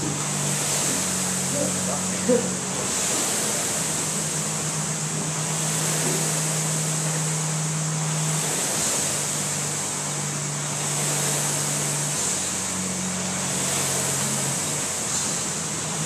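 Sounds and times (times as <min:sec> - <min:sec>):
rowing machine flywheel whooshing: 0:00.0 - 0:16.0.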